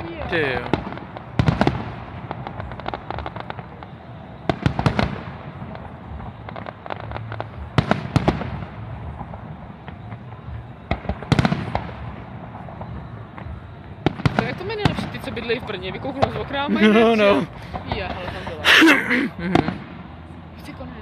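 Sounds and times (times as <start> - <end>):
fireworks bursting with sharp bangs: 0.0 - 21.0
fireworks crackling: 0.0 - 21.0.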